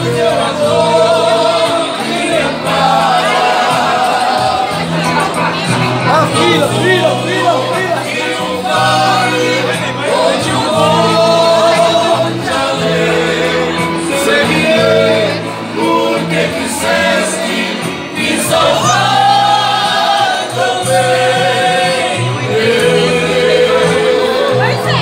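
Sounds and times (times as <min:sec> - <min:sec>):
group singing a hymn: 0:00.0 - 0:25.0.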